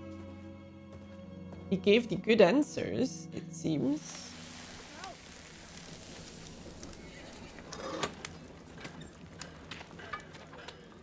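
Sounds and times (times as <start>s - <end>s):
tv drama soundtrack ambience: 0.0s - 11.0s.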